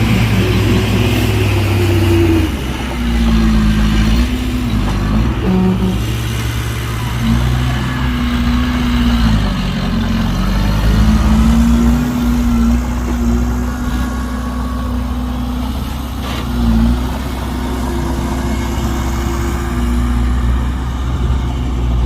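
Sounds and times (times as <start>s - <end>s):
heavy diesel engine revving: 0.0s - 22.0s.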